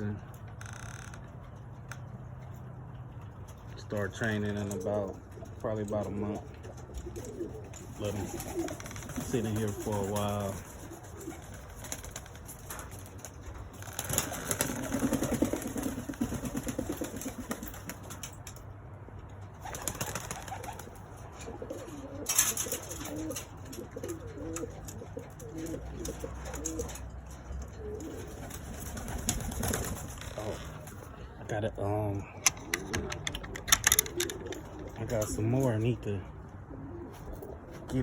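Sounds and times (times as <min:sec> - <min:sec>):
pigeons cooing: 0:02.0 - 0:18.2, 0:19.5 - 0:38.0.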